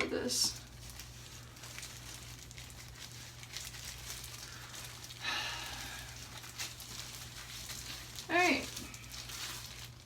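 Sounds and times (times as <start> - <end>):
hair rustling and crinkling: 0.0 - 10.0
low steady hum: 0.0 - 10.0.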